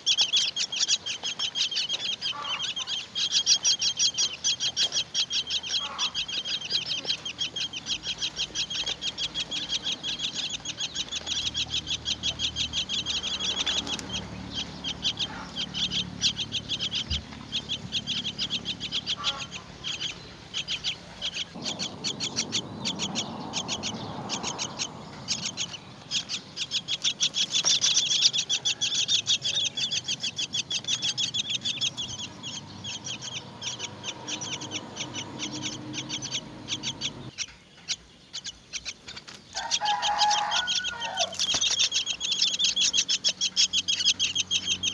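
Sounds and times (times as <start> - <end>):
bird nestlings begging calls: 0.0 - 44.9.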